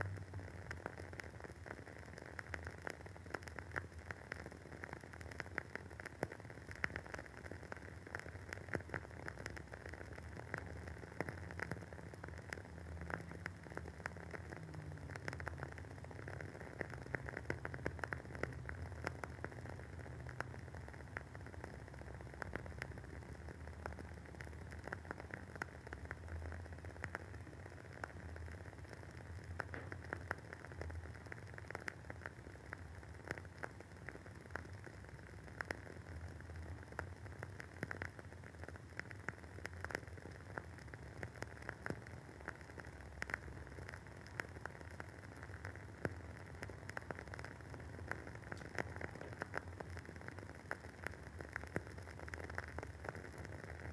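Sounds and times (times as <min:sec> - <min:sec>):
candle wick crackling: 0:00.0 - 0:53.9.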